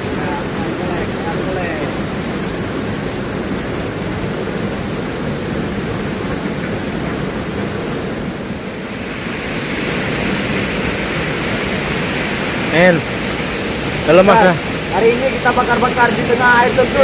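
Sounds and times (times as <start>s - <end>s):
waterfall roar: 0.0s - 17.0s.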